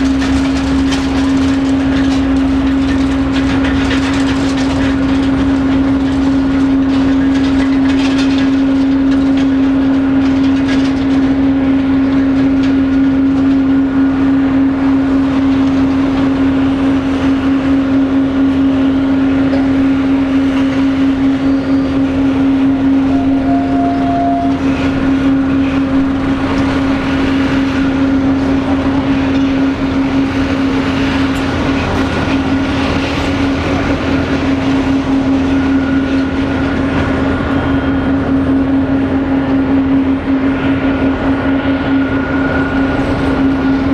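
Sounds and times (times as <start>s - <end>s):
jet engines droning: 0.0s - 43.9s.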